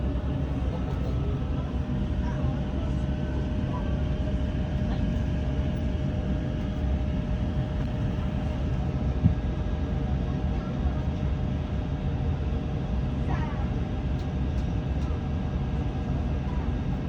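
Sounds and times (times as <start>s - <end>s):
aircraft cabin rumble: 0.0s - 17.0s
faint constant hum: 0.0s - 17.0s.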